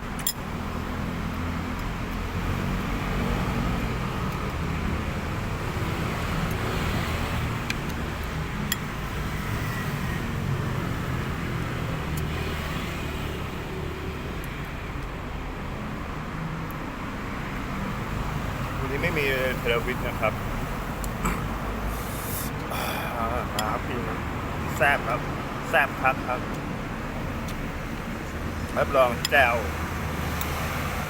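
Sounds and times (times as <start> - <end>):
road traffic noise: 0.0 - 31.0.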